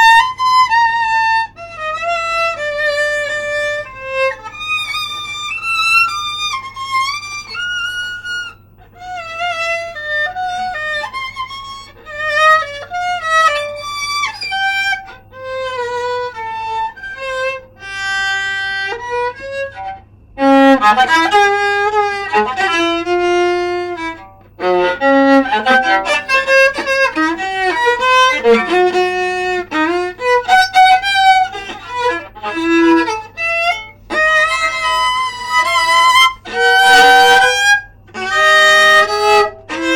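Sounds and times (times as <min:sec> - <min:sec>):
bowed viola melody: 0:00.0 - 0:39.9.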